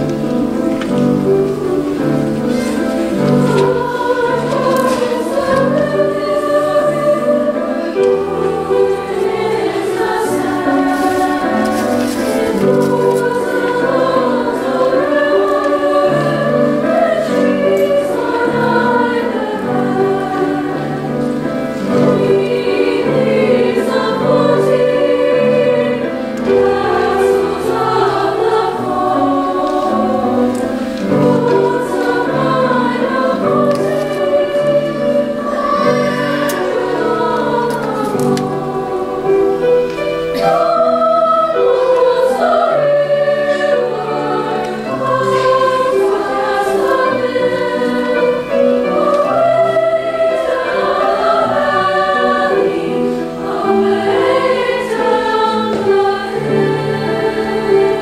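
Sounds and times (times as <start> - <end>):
piano low notes: 0.0 - 58.0
women's choir singing: 0.0 - 58.0.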